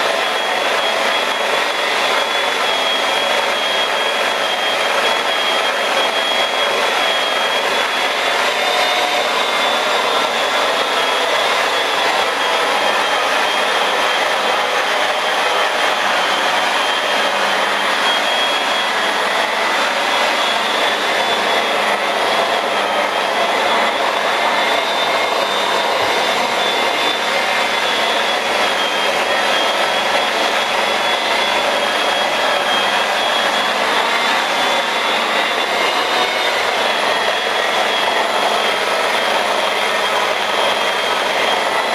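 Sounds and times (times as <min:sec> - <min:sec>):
rotary polisher motor whine: 0:00.0 - 0:41.9.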